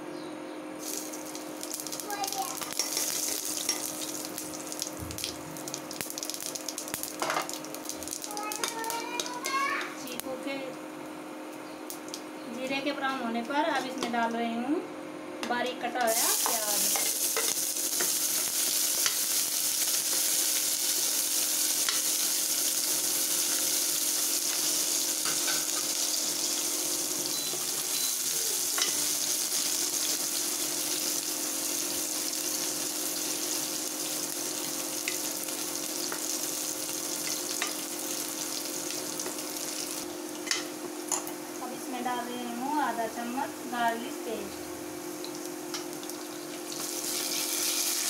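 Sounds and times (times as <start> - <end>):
steady low hum: 0.0 - 47.8
onion sizzling in hot oil: 0.8 - 12.3, 16.0 - 43.2, 44.0 - 48.0.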